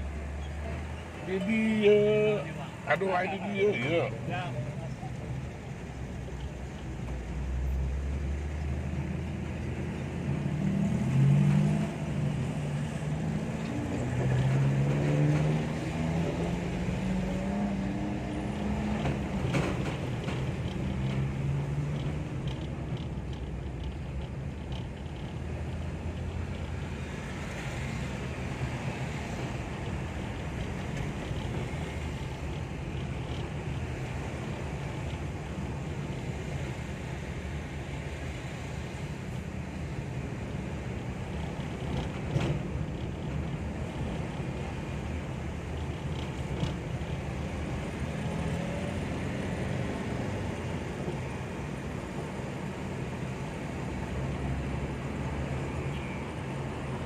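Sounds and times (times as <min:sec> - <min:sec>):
vehicle rumble and road noise: 0:00.0 - 0:57.0.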